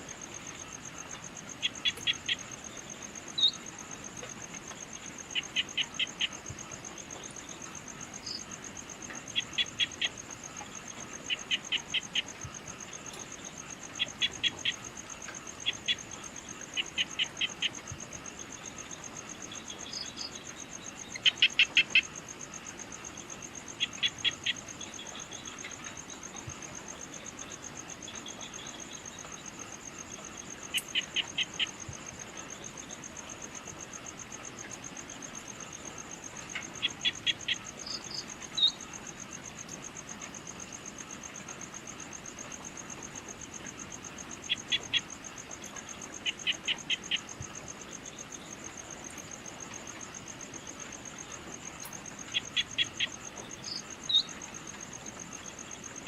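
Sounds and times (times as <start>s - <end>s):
high insect trill: 0.0s - 56.0s.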